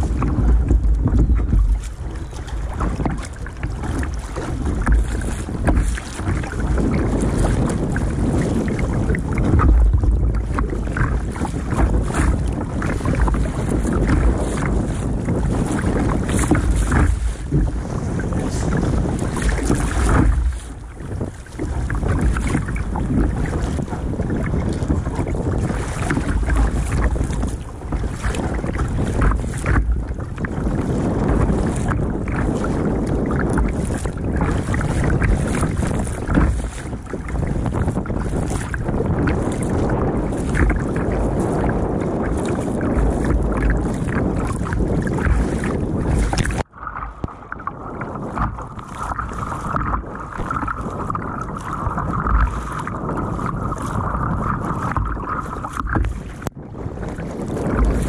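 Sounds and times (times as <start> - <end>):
water splashing against hull: 0.0 - 58.0
wind buffeting microphone: 0.0 - 58.0.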